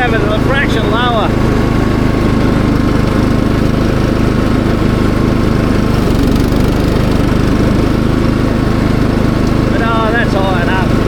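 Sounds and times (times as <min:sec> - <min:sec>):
ride-on lawn mower engine: 0:00.0 - 0:11.0.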